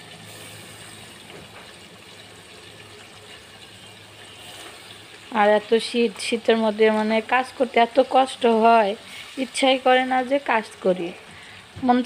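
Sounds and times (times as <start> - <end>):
chicken sizzling in a pot: 0.0 - 12.0.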